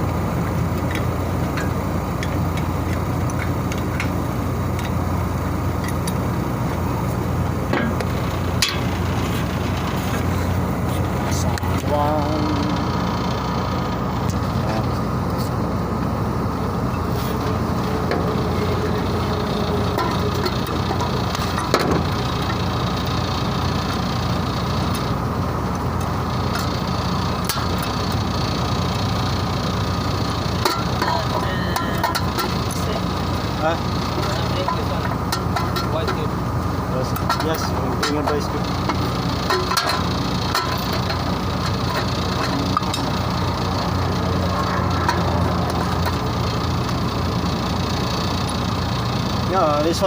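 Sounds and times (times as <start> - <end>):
machinery droning with low hum: 0.0 - 50.0.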